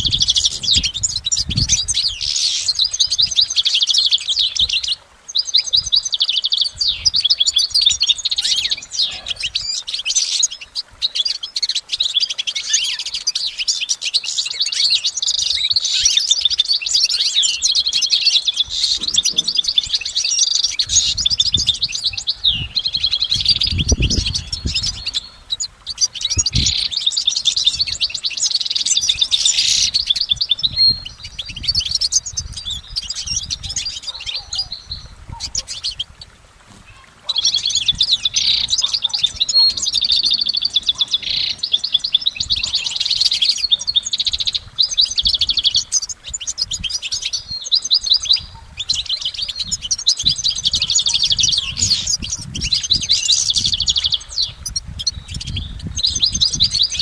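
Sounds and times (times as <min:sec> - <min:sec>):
goldfinch twittering song: 0:00.0 - 0:57.0.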